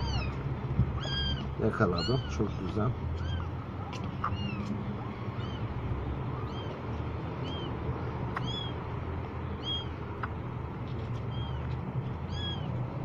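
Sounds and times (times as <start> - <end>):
kittens mewing: 0.0 - 8.9, 11.2 - 13.0.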